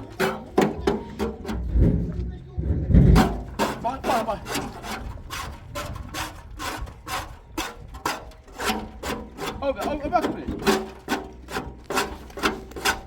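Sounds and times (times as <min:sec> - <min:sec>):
rhythmic scraping strokes: 0:00.0 - 0:13.0.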